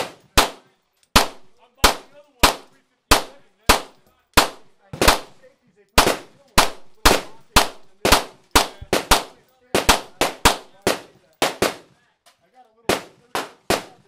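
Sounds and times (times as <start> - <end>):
gunshots: 0.0 - 5.4, 6.0 - 12.0, 12.9 - 14.0.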